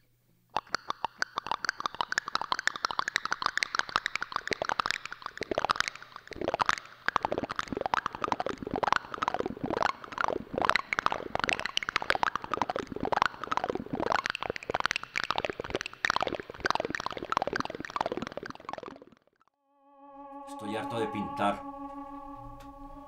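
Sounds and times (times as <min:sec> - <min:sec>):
liquid bubbling and gurgling: 0:00.6 - 0:19.4.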